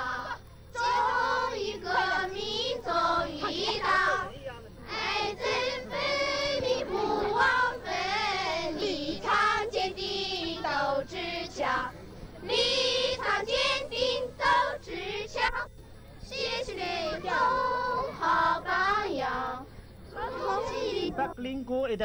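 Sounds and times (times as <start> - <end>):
children singing: 0.0 - 21.3.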